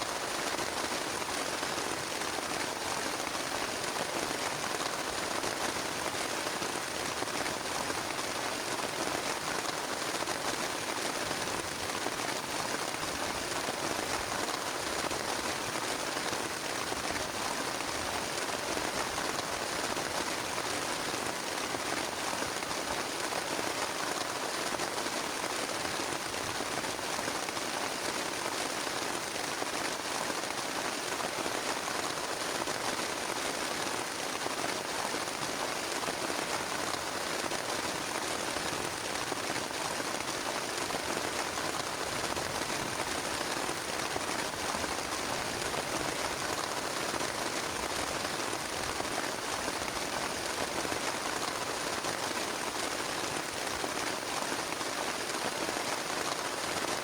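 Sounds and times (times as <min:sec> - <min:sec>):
heavy rain on plastic tarp: 0:00.0 - 0:57.0.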